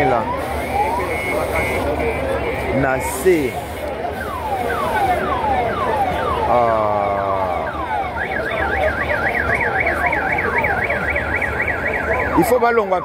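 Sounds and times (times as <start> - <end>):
electronic siren: 0.0 - 13.0.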